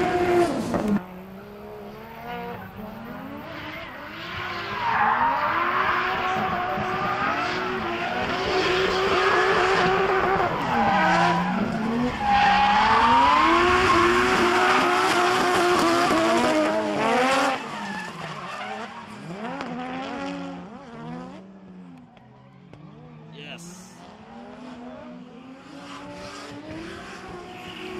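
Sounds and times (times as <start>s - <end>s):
car engines revving: 0.0s - 27.9s.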